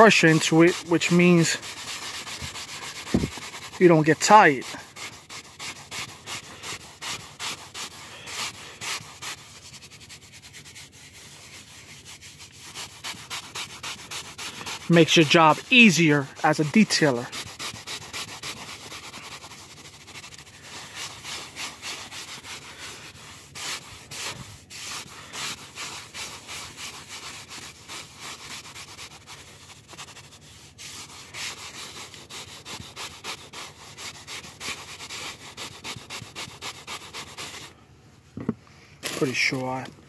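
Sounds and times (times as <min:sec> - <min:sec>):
brush scrubbing upholstery: 0:00.0 - 0:37.7, 0:39.1 - 0:39.9.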